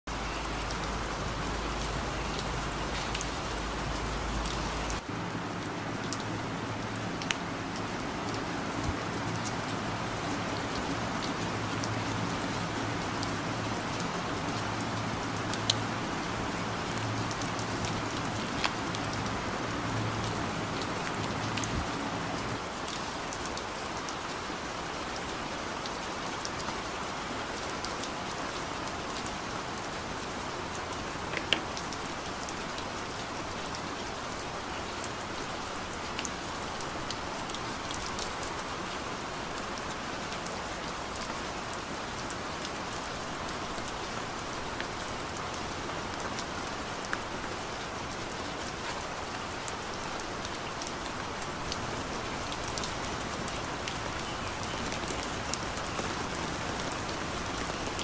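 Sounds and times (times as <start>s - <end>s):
steady rain hiss: 0.1s - 58.0s.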